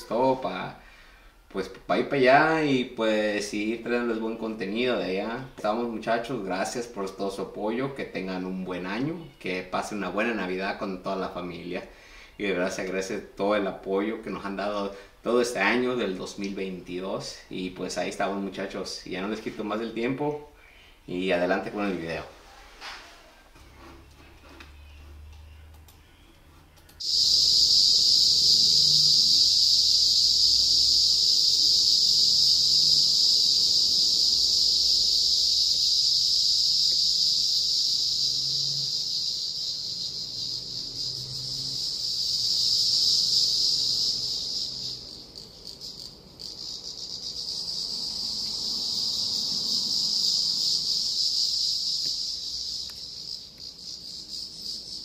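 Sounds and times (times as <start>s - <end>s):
insects droning shrilly: 0.0s - 22.2s, 27.0s - 55.0s.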